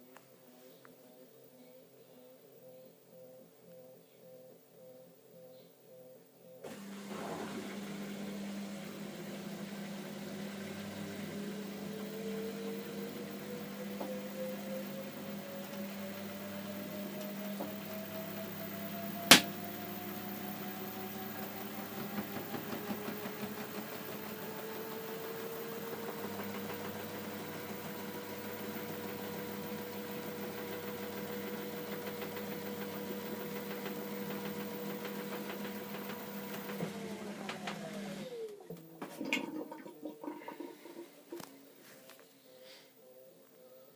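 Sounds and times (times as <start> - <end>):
washing machine motor whine: 6.6 - 41.9.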